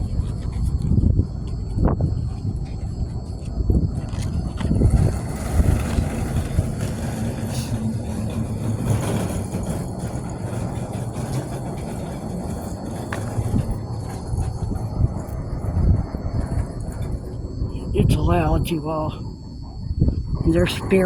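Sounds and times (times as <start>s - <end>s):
loud low machine rumble: 0.0s - 21.0s.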